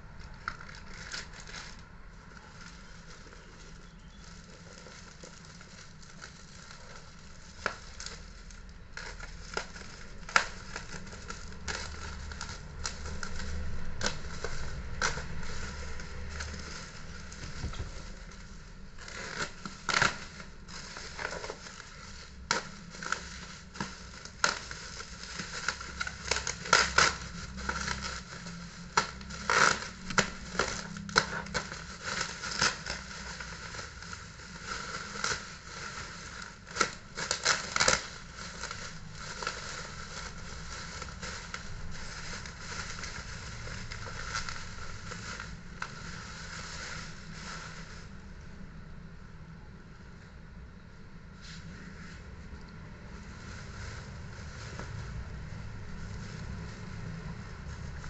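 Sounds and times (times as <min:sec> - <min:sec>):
bubble wrap popping: 0:00.0 - 0:48.9, 0:52.9 - 0:58.0
bubble wrap crinkling: 0:00.0 - 0:49.6, 0:51.2 - 0:58.0.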